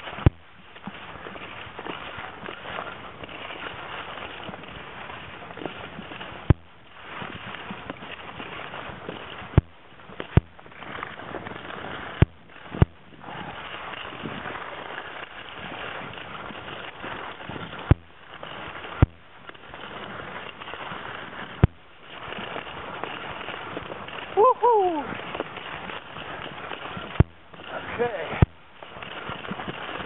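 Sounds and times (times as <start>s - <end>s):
skis sliding over snow: 0.0s - 30.0s.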